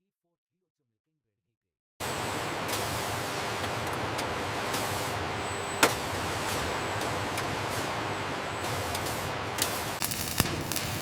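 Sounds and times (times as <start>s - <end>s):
factory machine noise: 2.0s - 11.0s.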